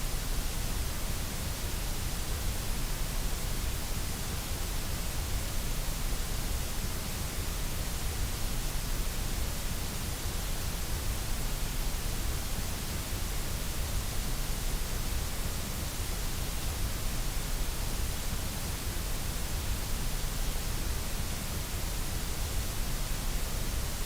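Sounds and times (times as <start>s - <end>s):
steady white noise: 0.0s - 24.0s.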